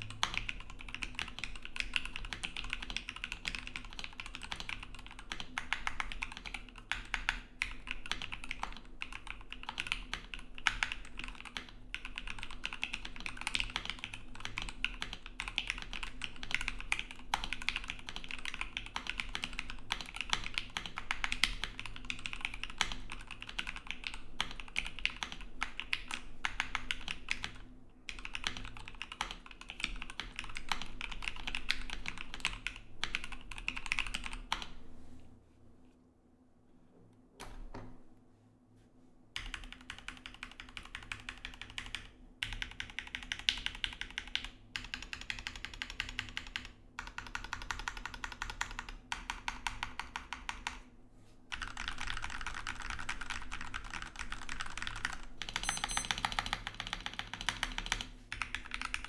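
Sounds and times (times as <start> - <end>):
fast typing on mechanical keyboard: 0.0 - 34.8, 39.4 - 50.9, 51.5 - 59.0.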